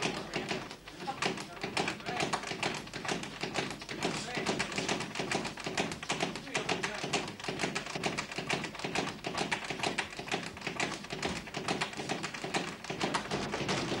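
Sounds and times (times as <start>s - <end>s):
boxers' rapid taps and slaps: 0.0s - 14.0s.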